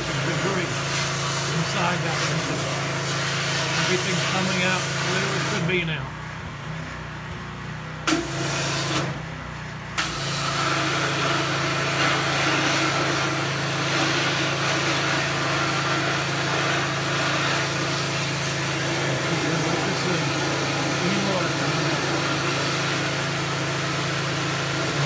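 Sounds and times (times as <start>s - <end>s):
water spray hissing: 0.0s - 5.8s, 10.0s - 25.0s
pressure washer motor humming: 0.0s - 25.0s.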